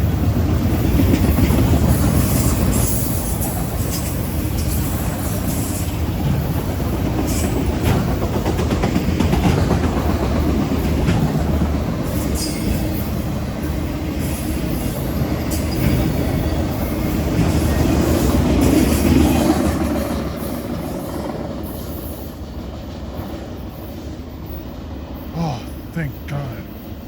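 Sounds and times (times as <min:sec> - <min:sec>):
train wheels rumbling on rail: 0:00.0 - 0:25.3.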